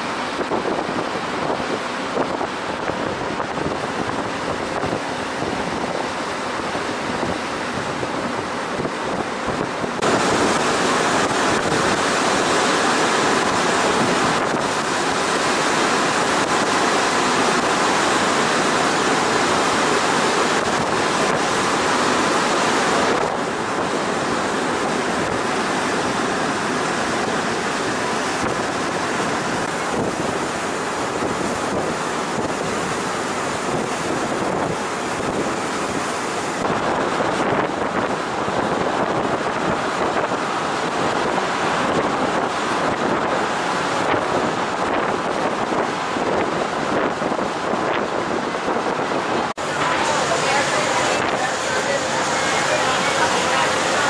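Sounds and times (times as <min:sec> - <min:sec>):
boat wake churning: 0:00.0 - 0:54.0
wind buffeting microphone: 0:00.0 - 0:54.0.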